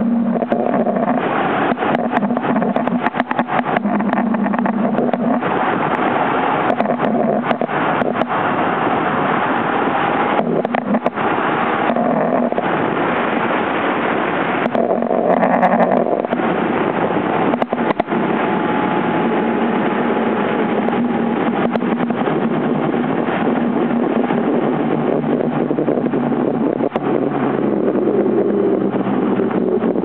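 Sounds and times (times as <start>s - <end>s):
vehicle cruising drone: 0.0s - 30.0s
wind noise on microphone: 0.0s - 30.0s.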